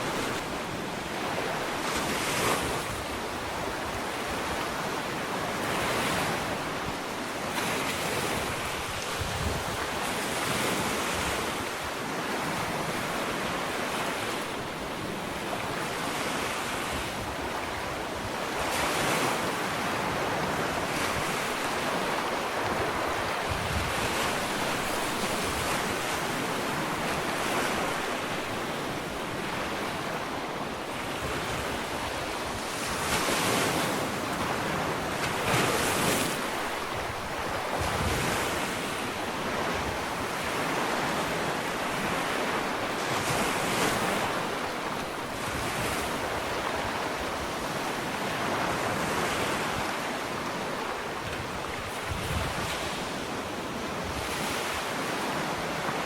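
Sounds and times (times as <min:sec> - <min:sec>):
wind on microphone: 0:00.0 - 0:14.4, 0:15.0 - 0:30.3, 0:30.9 - 0:56.0
ocean waves washing up a beach: 0:00.0 - 0:56.0.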